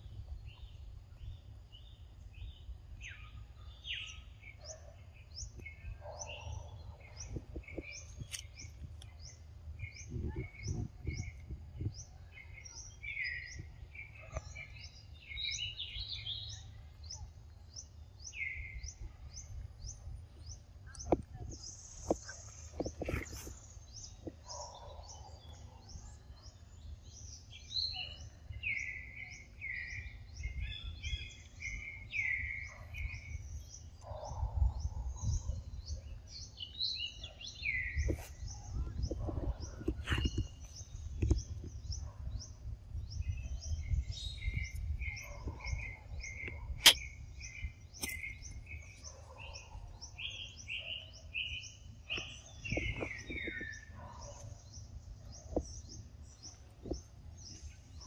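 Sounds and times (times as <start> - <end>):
birds chirping: 0.4 - 58.0.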